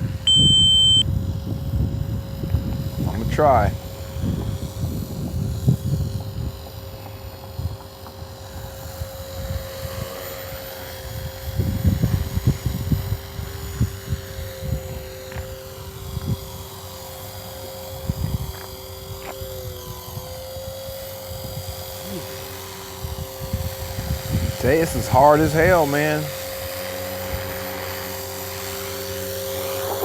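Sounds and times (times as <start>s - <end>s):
wind rumble on microphone: 0.0s - 28.4s
rc helicopter whine: 0.0s - 30.0s.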